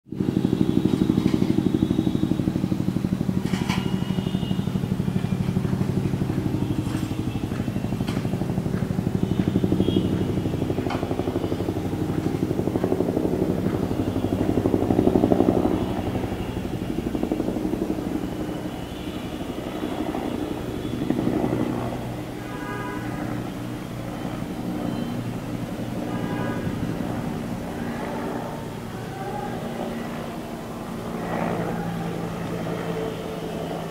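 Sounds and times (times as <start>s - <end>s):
helicopter rotor beating: 0.1s - 33.9s.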